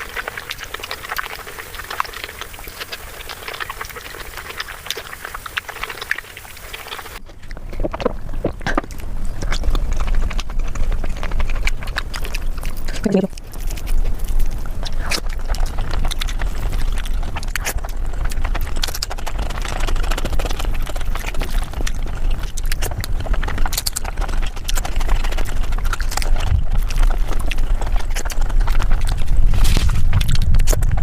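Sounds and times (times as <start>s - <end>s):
sped-up chewing clicks: 0.0s - 31.0s.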